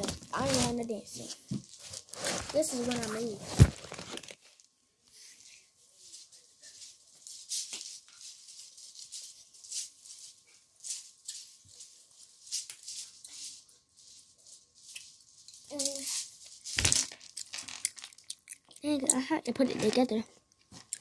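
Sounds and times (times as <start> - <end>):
child rustling and shuffling: 0.0 - 16.7, 19.5 - 20.3.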